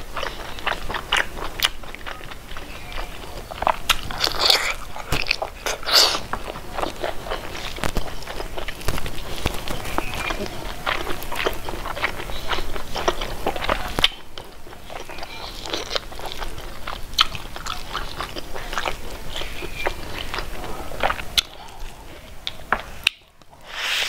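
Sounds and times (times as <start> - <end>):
mouth chewing wetly: 0.0 - 24.0.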